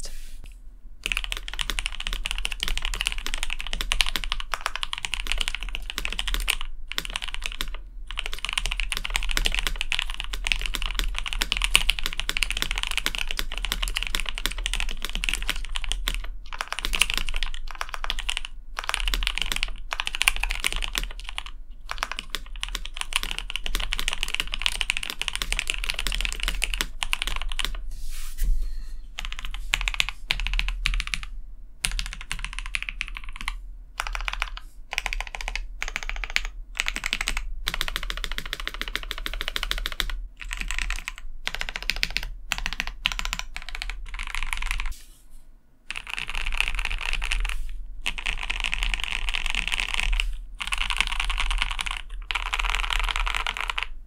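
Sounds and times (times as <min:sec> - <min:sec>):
mechanical keyboard typing: 0:01.0 - 0:27.8, 0:29.2 - 0:44.9, 0:45.9 - 0:54.0.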